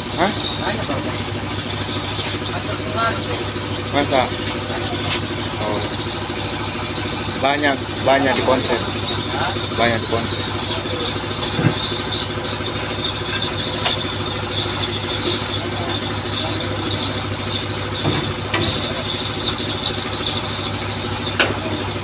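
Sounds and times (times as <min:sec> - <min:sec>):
machinery humming with high whine: 0:00.0 - 0:22.0.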